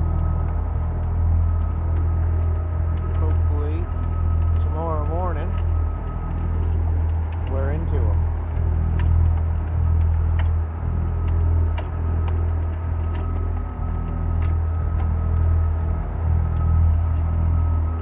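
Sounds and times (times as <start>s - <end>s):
boat engine droning: 0.0s - 18.0s
faint whine: 0.0s - 18.0s.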